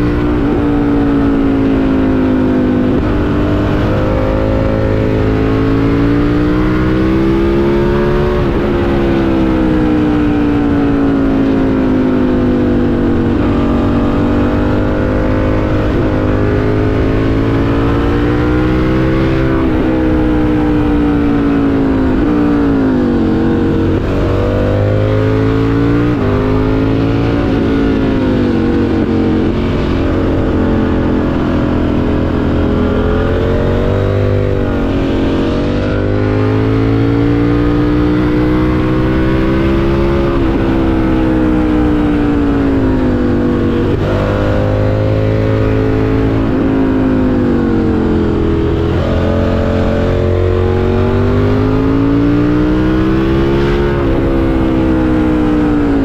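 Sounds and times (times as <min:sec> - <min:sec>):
motorcycle engine revving while riding: 0:00.0 - 0:56.0.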